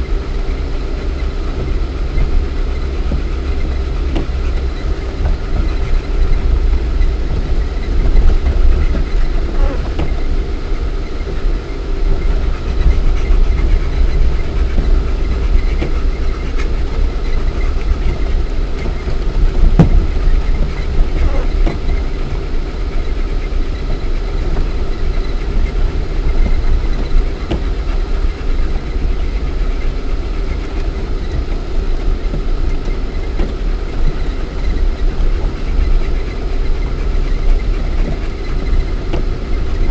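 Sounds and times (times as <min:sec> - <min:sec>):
car engine rumble from inside cabin: 0:00.0 - 0:39.9.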